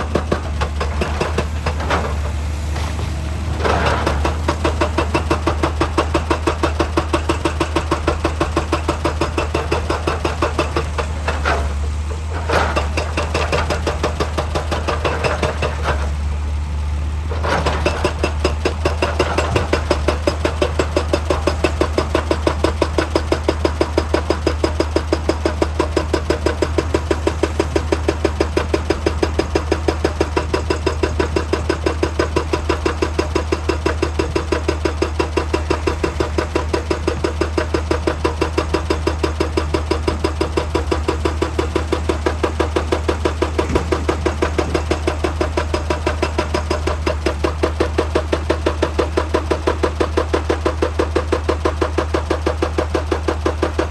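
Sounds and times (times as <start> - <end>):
excavator pounding: 0.0 - 16.5, 17.2 - 53.9
diesel engine drone: 0.0 - 53.9.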